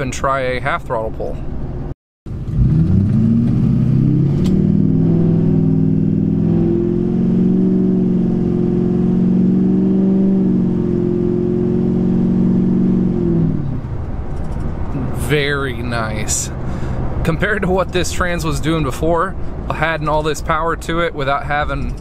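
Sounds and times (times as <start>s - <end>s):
diesel truck engine accelerating: 1.5s - 22.0s.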